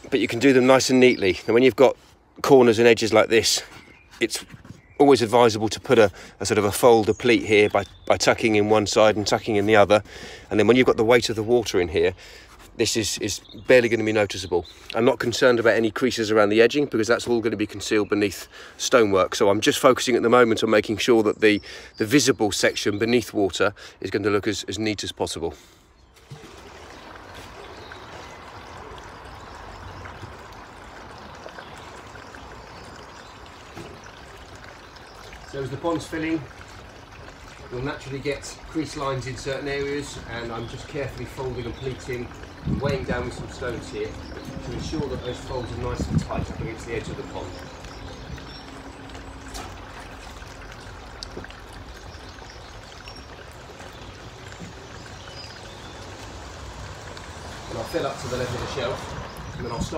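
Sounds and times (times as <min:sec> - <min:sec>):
water pouring from a hose: 0:00.0 - 0:24.0, 0:25.4 - 0:59.9.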